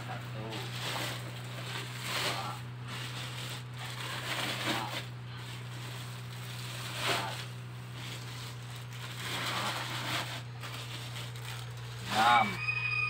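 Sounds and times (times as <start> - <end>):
plastic sack rustling: 0.0 - 12.8
steady low hum: 0.0 - 13.0.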